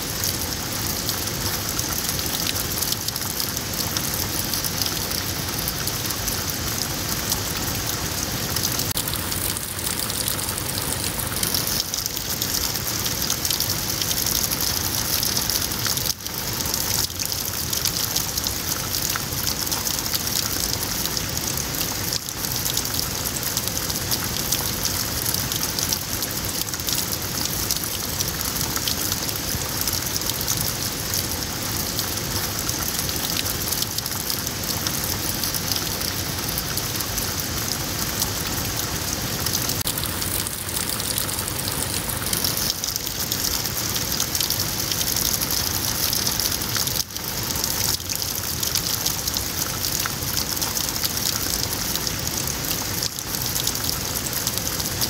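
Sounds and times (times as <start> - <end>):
water running over pebbles: 0.0 - 55.0.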